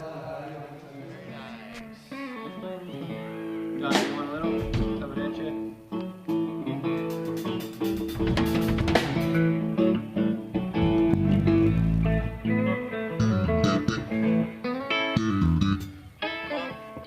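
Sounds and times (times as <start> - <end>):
guitar plucked notes and chords: 1.3 - 17.0.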